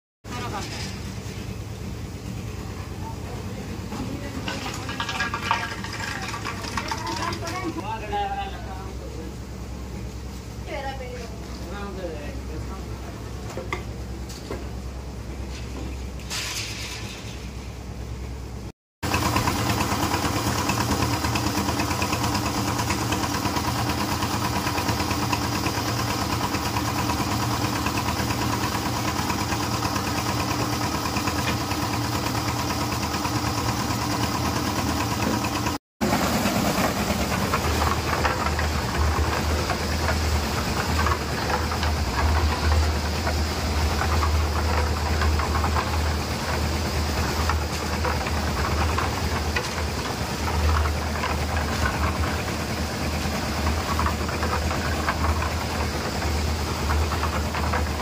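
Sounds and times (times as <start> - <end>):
drum turning wet concrete: 0.2 - 58.0
concrete mixer engine chugging: 0.3 - 16.2, 16.8 - 58.0.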